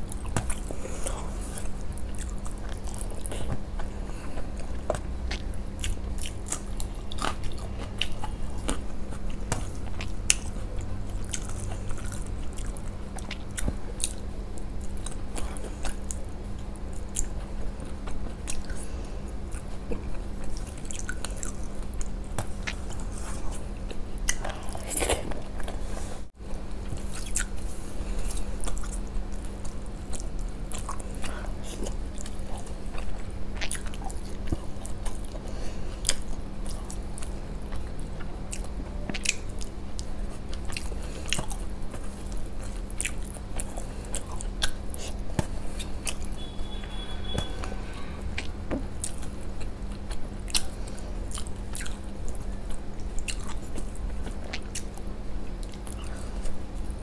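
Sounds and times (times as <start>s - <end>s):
close chewing and mouth clicks: 0.0s - 57.0s
steady low hum: 0.0s - 57.0s.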